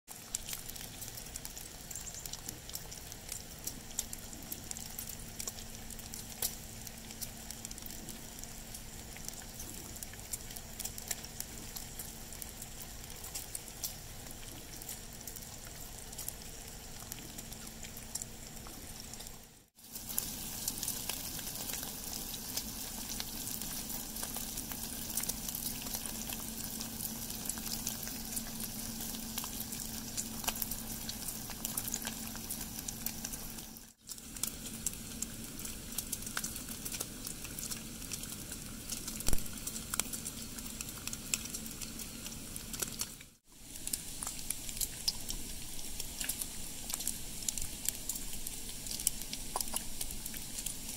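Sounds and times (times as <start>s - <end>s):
bacon sizzling and popping: 0.1s - 50.9s.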